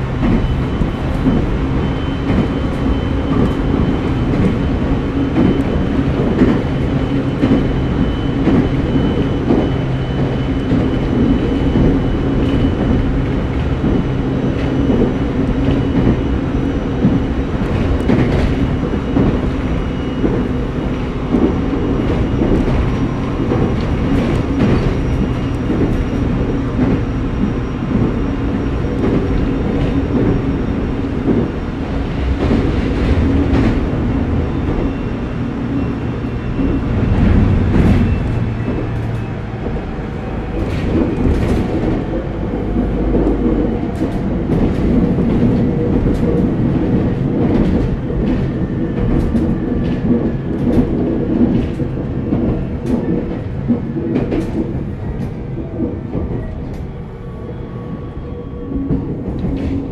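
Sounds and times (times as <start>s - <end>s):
clacks over rail joints: 0.0s - 57.1s, 58.7s - 59.9s
rumble of train wheels on rail: 0.0s - 59.9s.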